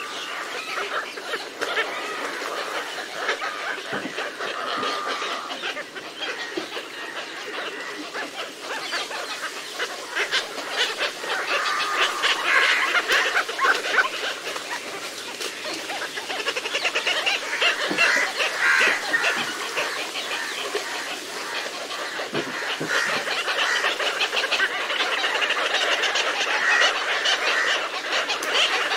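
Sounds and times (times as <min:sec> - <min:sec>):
birds chattering: 0:00.0 - 0:28.9.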